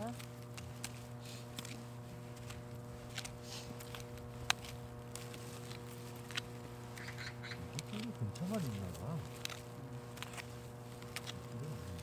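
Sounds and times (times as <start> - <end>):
hands rustling in soil: 0.0 - 12.0
steady low hum: 0.0 - 12.0.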